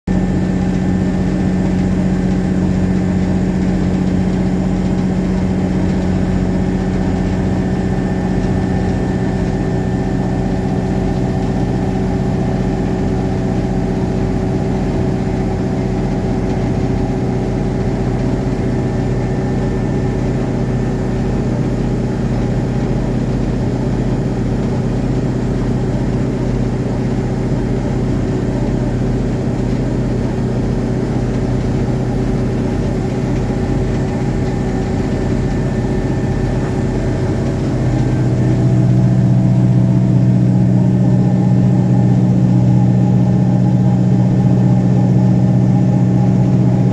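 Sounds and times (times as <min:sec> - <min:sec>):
diesel engine running steadily: 0:00.0 - 0:46.9.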